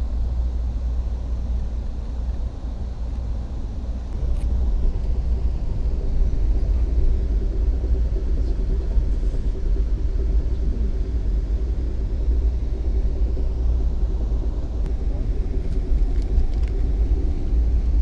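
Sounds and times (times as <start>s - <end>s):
faint steady hum: 0.0s - 18.0s
train rumble: 0.0s - 18.0s.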